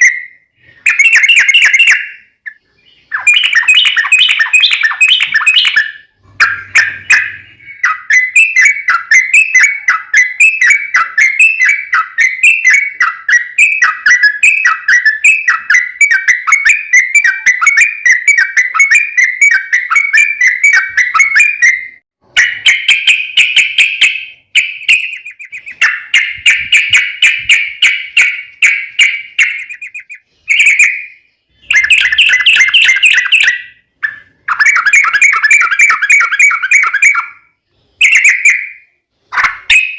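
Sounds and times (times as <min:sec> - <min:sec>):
bird song bubbly chattering: 0:00.0 - 0:39.9.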